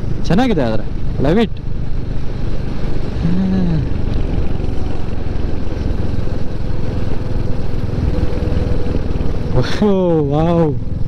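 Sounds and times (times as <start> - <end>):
motorcycle engine running: 0.0 - 11.0
road noise: 0.0 - 11.0
wind noise: 0.0 - 11.0.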